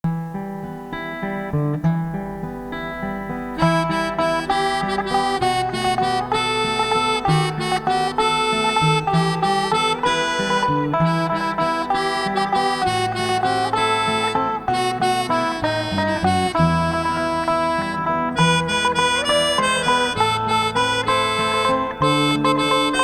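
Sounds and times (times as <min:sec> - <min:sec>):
instrumental music: 0:00.0 - 0:23.0.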